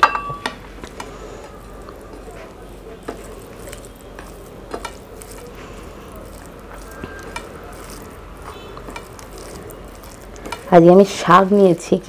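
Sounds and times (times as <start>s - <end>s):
soft squishing of rice: 0.4s - 12.0s.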